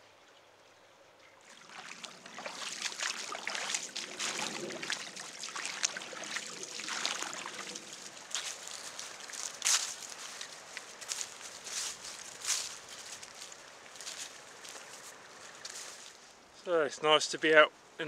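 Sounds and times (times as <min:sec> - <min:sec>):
footsteps through dry grass: 0:01.4 - 0:16.5.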